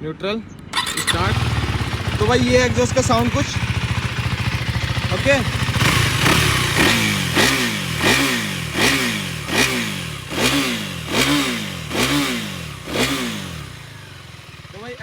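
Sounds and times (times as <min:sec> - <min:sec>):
motorcycle engine revving: 0:00.7 - 0:15.0.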